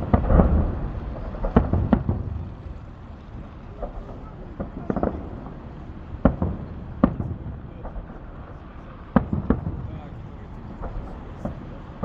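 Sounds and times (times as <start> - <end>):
fireworks bangs: 0.0 - 12.0
rolling rumble of echoes: 0.0 - 12.0.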